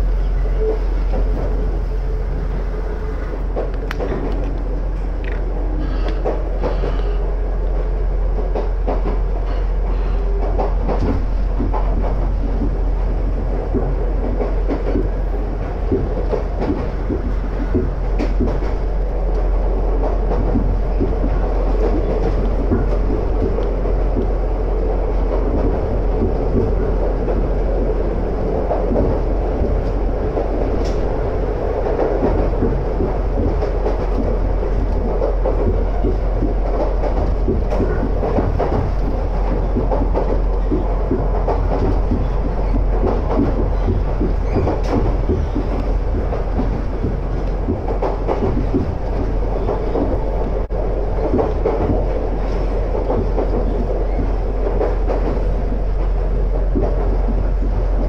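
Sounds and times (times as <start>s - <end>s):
rumble of wheels on rail: 0.0s - 58.0s.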